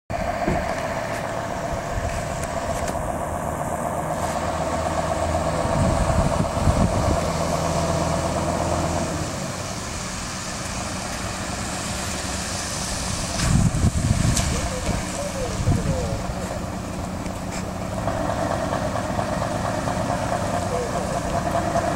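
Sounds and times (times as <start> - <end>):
diesel truck engine running: 0.1 - 21.9.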